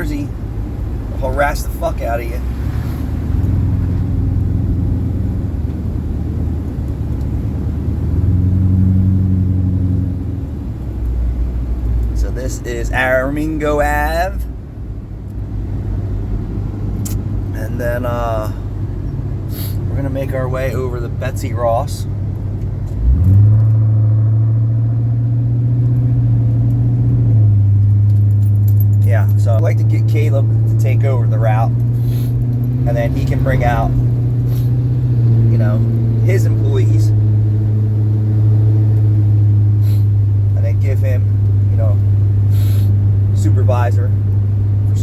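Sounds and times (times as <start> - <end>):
vehicle engine and road noise: 0.0 - 45.0.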